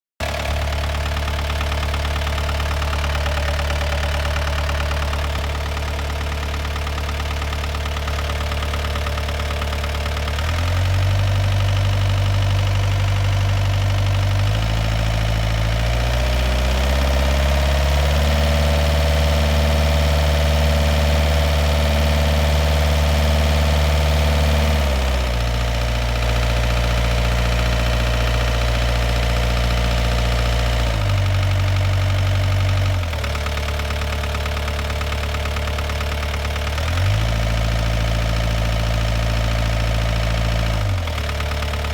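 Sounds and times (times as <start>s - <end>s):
diesel engine knocking: 0.2s - 41.9s.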